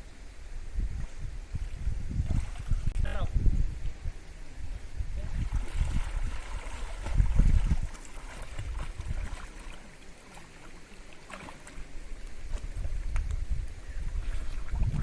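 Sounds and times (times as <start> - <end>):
wind buffeting microphone: 0.0 - 9.7, 11.8 - 15.0
water rushing in mountain stream: 0.0 - 15.0.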